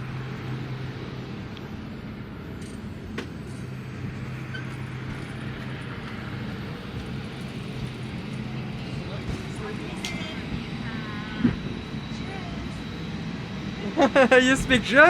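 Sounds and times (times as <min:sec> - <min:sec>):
airplane cabin hum and air rush: 0:00.0 - 0:15.0.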